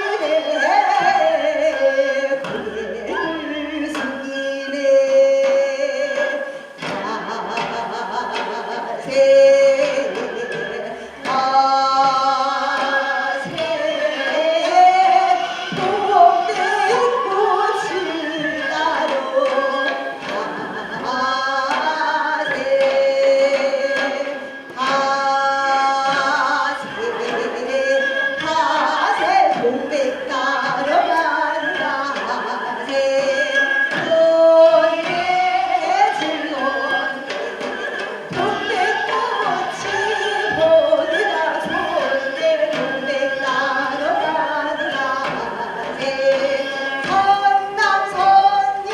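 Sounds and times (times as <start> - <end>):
woman singing folk song with vibrato: 0.0 - 48.9.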